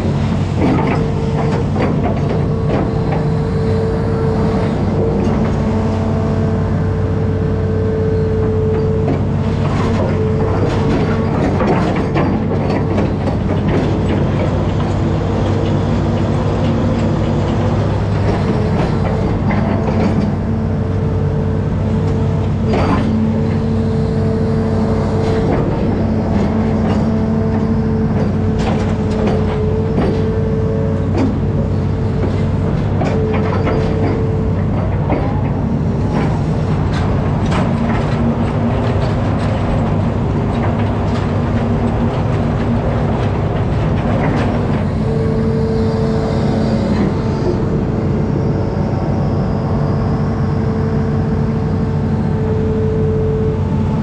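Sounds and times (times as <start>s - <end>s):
diesel engine running: 0.0s - 54.0s
hydraulic whine: 0.0s - 54.0s.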